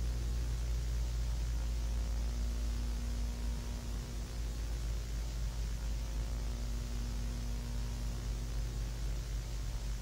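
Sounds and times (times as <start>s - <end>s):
faint steady hum: 0.0s - 10.0s
videotape static hiss: 0.0s - 10.0s.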